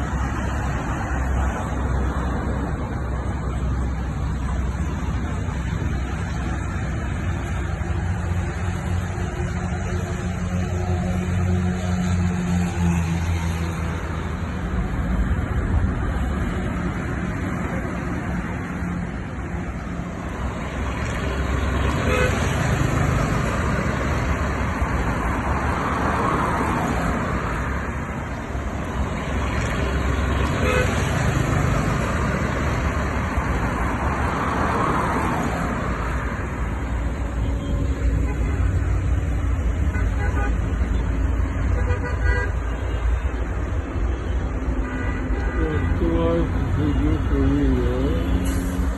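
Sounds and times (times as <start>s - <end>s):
road traffic rumble: 0.0s - 48.9s.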